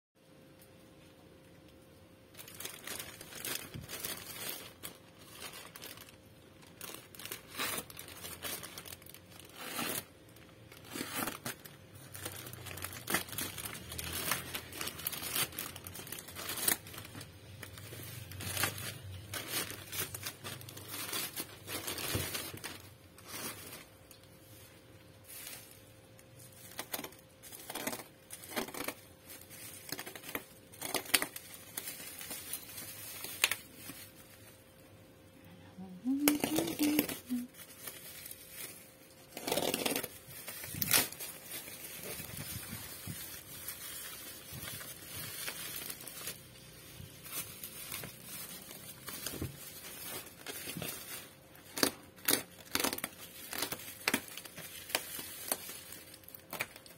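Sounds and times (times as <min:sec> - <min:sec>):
plastic crinkling and tearing: 0:01.7 - 0:35.2, 0:36.0 - 0:56.9.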